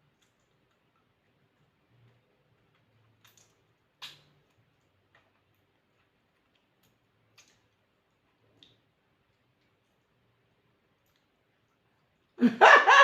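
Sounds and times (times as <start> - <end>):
faint clicks of eating: 0.0 - 12.4.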